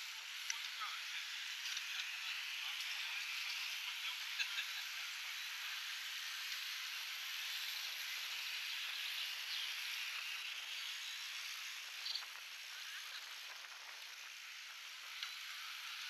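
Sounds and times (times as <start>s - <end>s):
bicycle tyres and freewheels hissing: 0.0s - 16.0s.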